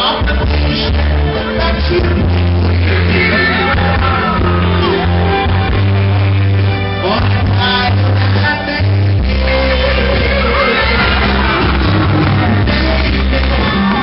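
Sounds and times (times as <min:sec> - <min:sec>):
man singing into a microphone: 0:00.0 - 0:05.0, 0:07.0 - 0:14.0
live pop-rock band playing: 0:00.0 - 0:14.0.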